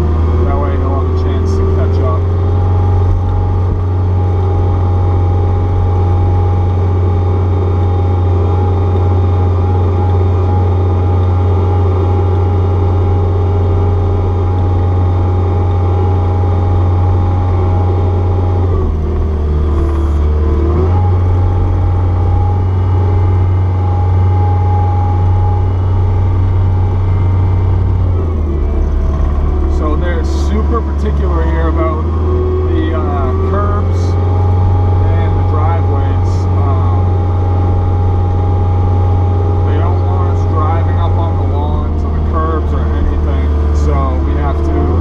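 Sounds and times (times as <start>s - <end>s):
diesel engine running at high revs: 0.0s - 45.0s.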